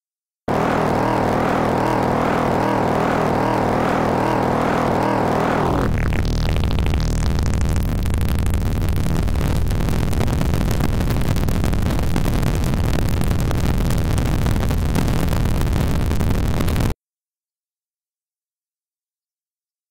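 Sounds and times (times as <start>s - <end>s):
harsh buzzing electronic noise: 0.5s - 16.9s.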